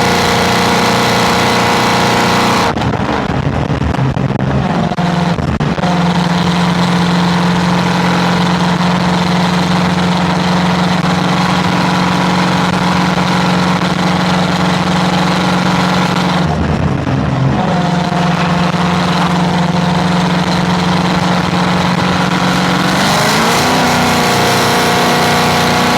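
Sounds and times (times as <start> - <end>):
vehicle engine drone: 0.0 - 25.9.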